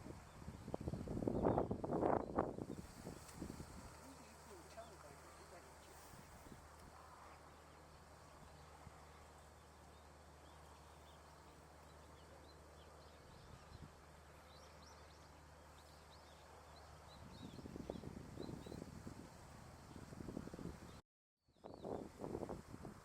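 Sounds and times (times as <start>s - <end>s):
small birds chirping: 0.0s - 22.2s.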